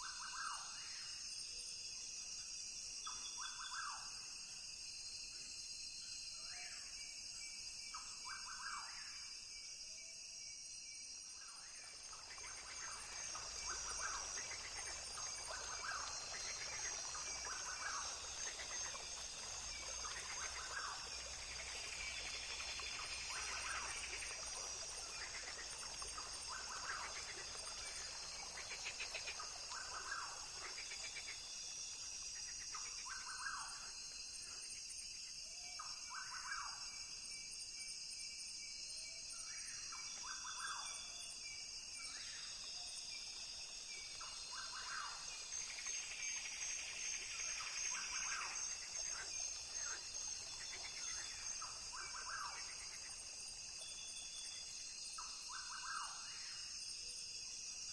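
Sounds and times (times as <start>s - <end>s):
insects chirping chorus: 0.0s - 57.9s.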